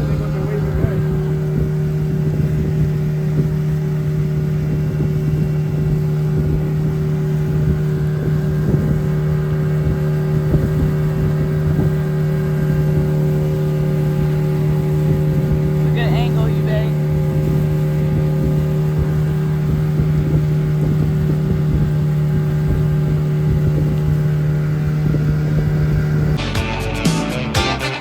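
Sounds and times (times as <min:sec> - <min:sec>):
engine droning steadily: 0:00.0 - 0:28.0.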